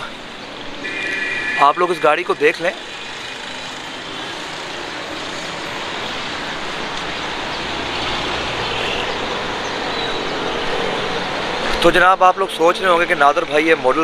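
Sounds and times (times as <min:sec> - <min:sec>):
traffic hiss of passing vehicles: 0:00.0 - 0:14.0.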